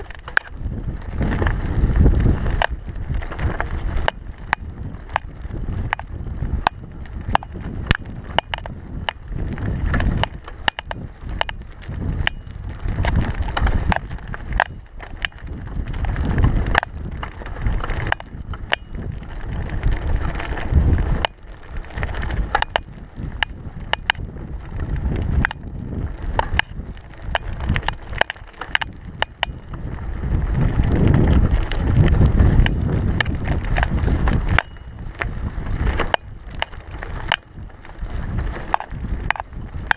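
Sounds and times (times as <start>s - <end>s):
bike clicks and rattles: 0.0s - 39.9s
bike tyres rumbling on dirt: 0.0s - 39.9s
wind on microphone: 0.0s - 39.9s.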